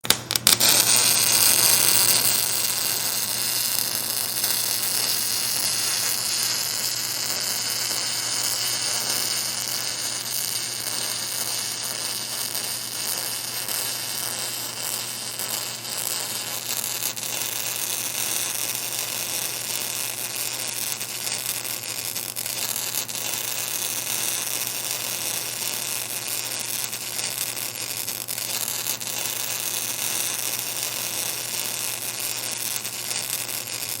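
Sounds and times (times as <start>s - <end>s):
welding arc hissing and crackling: 0.0s - 34.0s.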